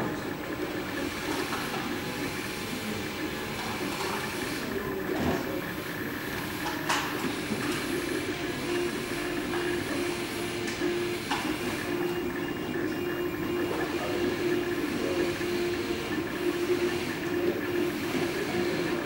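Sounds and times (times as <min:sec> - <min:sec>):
mechanical whir: 0:00.0 - 0:19.0
stepper motors humming: 0:00.0 - 0:19.0.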